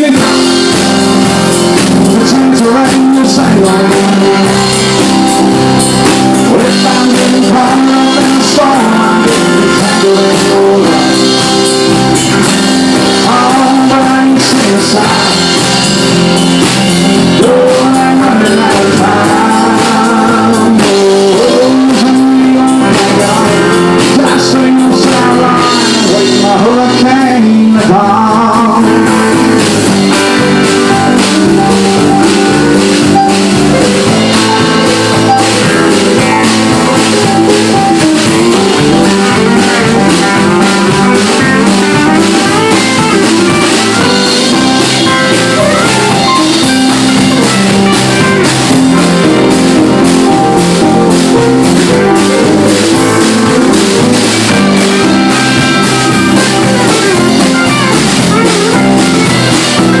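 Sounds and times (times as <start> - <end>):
bass guitar: 0.0 - 60.0
drum kit: 0.0 - 60.0
electric guitar: 0.0 - 60.0.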